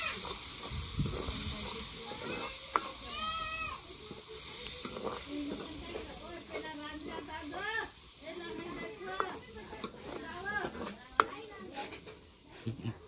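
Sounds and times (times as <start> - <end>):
ladle stirring: 0.0 - 12.6
curry sizzling in a pan: 0.0 - 13.0.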